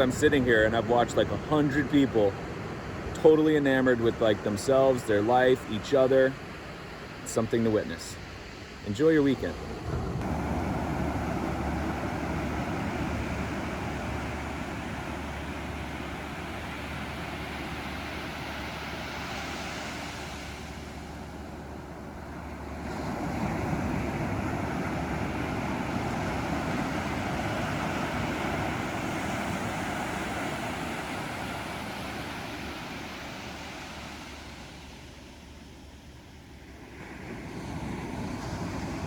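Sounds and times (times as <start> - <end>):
ocean surf on a beach: 0.0 - 39.0.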